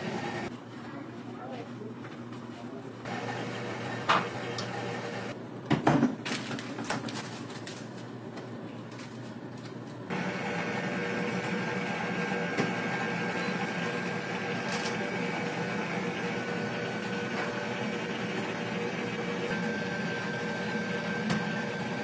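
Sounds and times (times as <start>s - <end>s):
mechanical hum with high whine: 0.0s - 22.0s.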